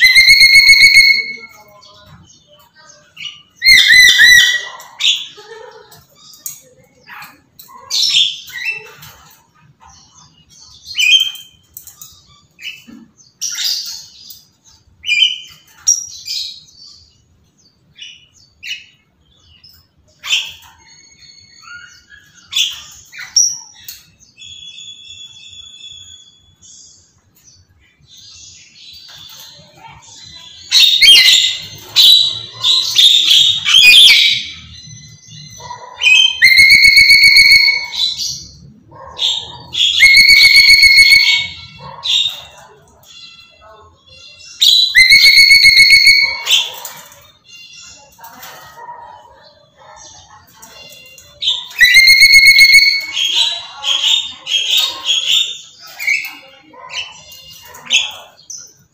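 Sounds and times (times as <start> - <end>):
parrot chirping and screeching: 0.0 - 17.2, 19.6 - 26.6, 27.9 - 58.8.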